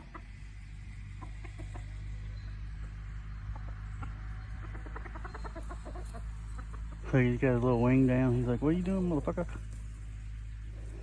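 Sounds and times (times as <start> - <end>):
chickens clucking: 0.0 - 11.0
steady low hum: 0.0 - 11.0.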